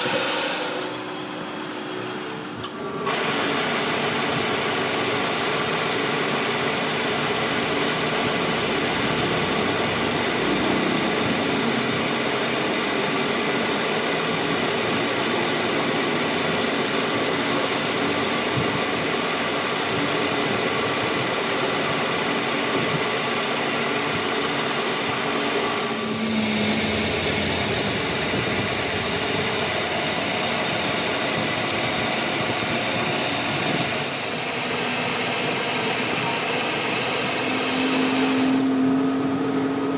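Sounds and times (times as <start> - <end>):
metal lathe motor humming: 0.0 - 39.9.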